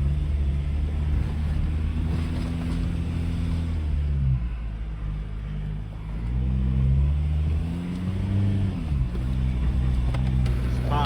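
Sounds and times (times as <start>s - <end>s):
vehicle engine driving: 0.0s - 11.0s.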